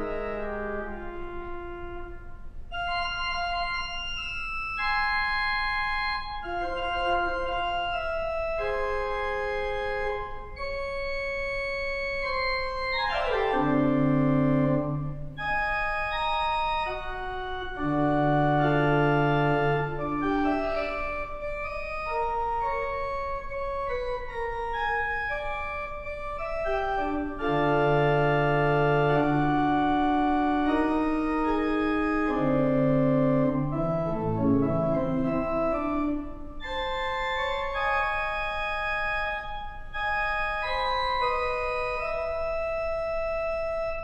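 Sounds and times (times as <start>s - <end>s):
pipe organ chords: 0.0s - 44.0s.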